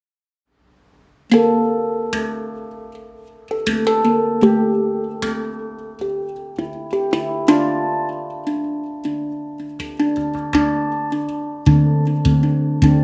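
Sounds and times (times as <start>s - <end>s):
handpan melody: 1.3s - 13.0s.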